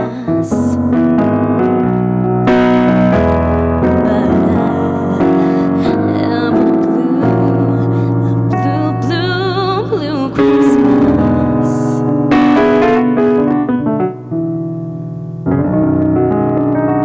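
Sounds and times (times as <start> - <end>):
electronic keyboard piano chords: 0.0 - 17.0.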